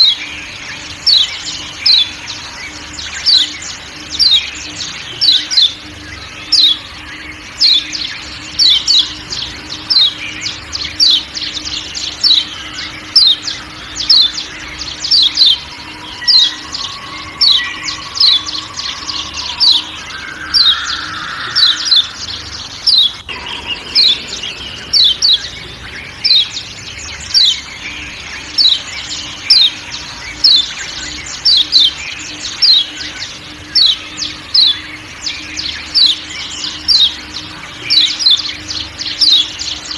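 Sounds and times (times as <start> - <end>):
bird giving sharp calls: 0.0 - 39.9
faint forest background: 0.0 - 39.9.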